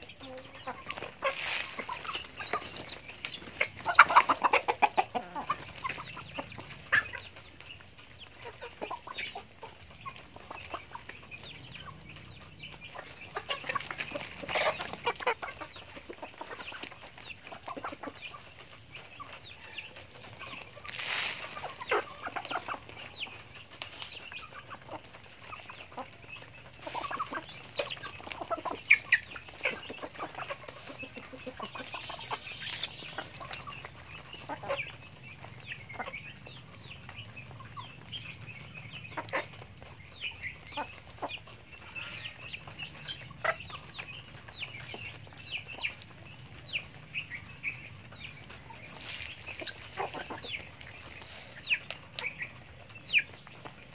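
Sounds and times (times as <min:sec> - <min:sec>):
chickens clucking: 0:00.0 - 0:53.9.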